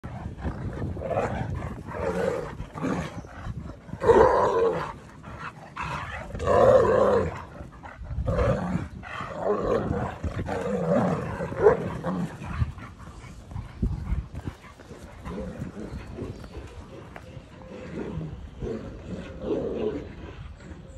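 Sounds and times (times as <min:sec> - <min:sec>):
dogs growling in play: 0:00.0 - 0:20.9.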